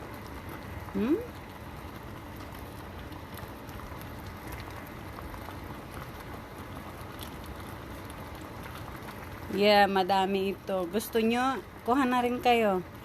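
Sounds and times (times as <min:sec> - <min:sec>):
syrup bubbling and popping: 0:00.0 - 0:13.0.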